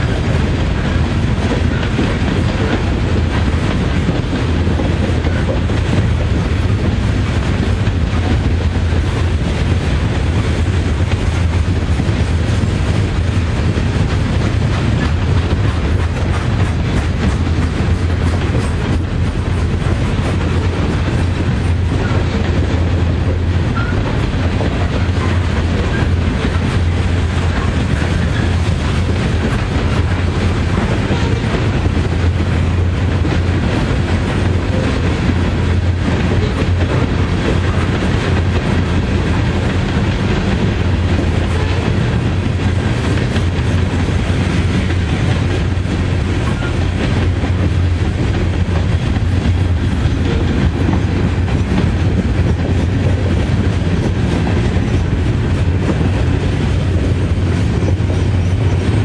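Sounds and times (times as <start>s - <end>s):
clickety-clack of wheels: 0.0s - 59.0s
freight train wheels rumbling: 0.0s - 59.0s.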